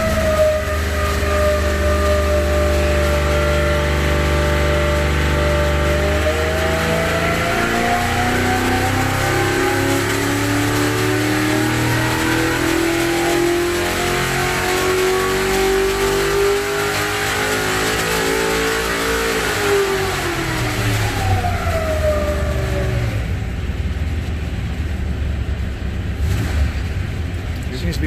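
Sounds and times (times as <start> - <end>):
racing engine revving on dynamometer: 0.0 - 23.7, 26.1 - 27.1.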